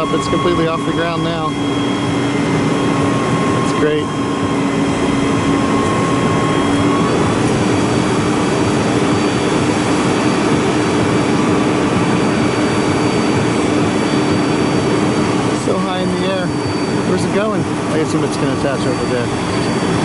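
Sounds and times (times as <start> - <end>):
crane engine droning: 0.0 - 20.0.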